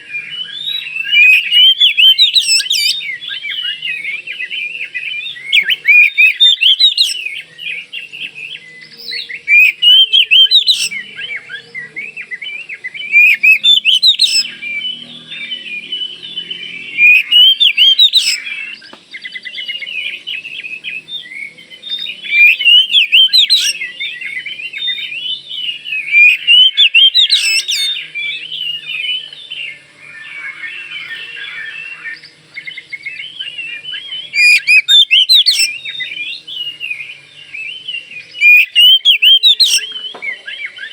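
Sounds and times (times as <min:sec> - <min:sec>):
magpie-robin singing whistled phrases: 0:00.0 - 0:40.9.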